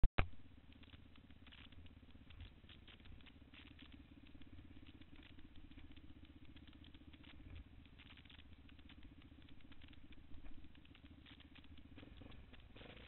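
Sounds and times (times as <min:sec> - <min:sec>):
scattered crackling: 0:00.1 - 0:13.0
faint atv engine running: 0:00.2 - 0:13.0.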